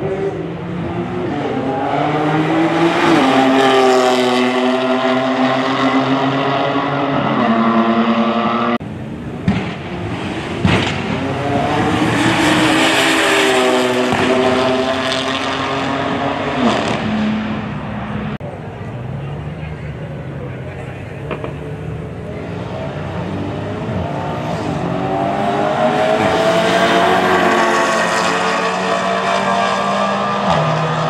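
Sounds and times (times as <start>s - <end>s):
car engines accelerating: 0.0s - 31.0s.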